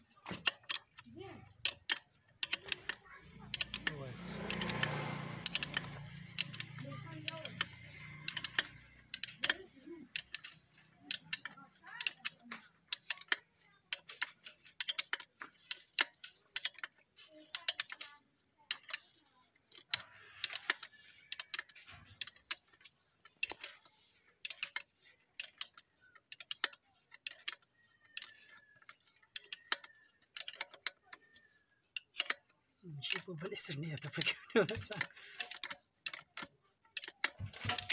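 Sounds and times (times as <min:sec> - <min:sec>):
metallic wrench clicks: 0:00.3 - 0:37.9.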